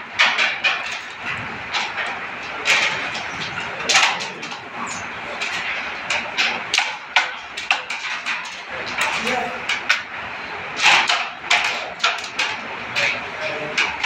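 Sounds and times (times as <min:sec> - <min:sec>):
carrom pieces clacking: 0:01.7 - 0:14.0.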